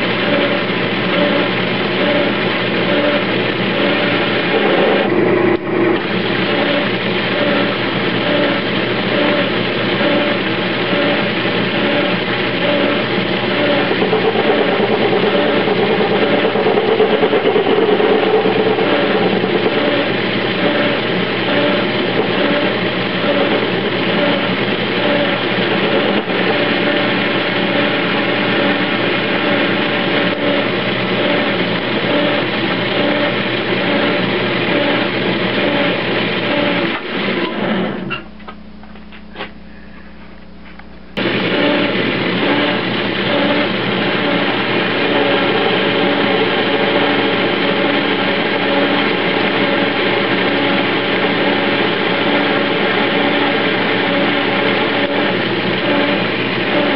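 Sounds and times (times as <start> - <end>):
lathe tool cutting metal: 0.0 - 38.2, 41.2 - 56.9
metal lathe motor whine: 0.0 - 38.4, 41.1 - 56.9.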